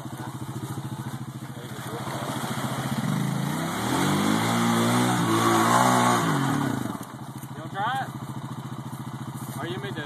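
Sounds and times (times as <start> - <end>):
atv engine revving: 0.0 - 10.0.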